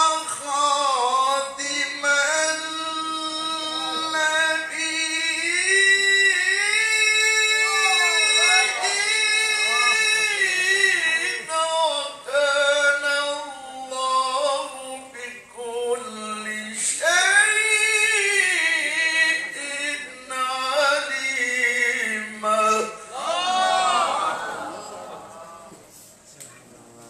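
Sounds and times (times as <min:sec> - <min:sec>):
man reciting melodically: 0:00.0 - 0:23.4.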